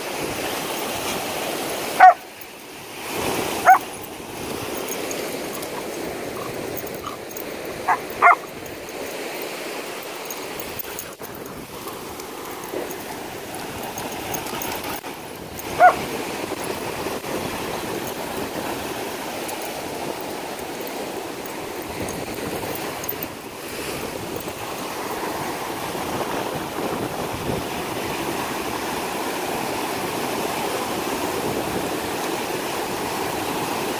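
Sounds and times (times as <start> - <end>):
ocean surf breaking on sand: 0.0 - 33.9.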